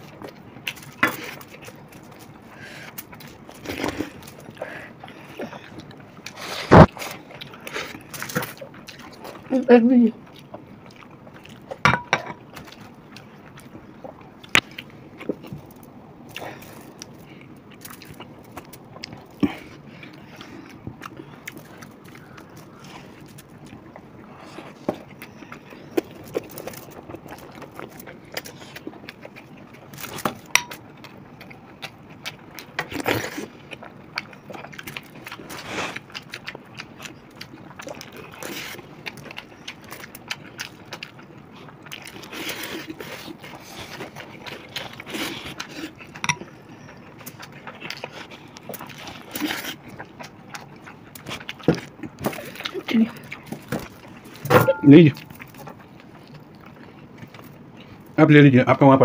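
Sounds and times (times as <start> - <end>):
chewing and mouth sounds: 0.0 - 58.2.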